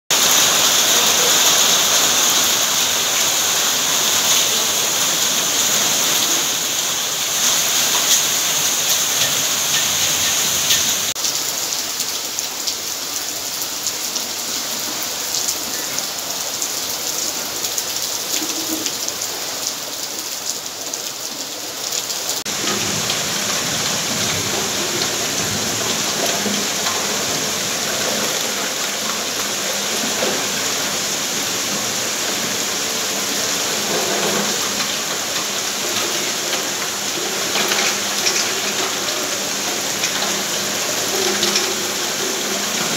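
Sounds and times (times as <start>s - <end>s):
heavy rain on a tin roof: 0.1s - 42.9s
water streaming off roof: 0.1s - 42.9s.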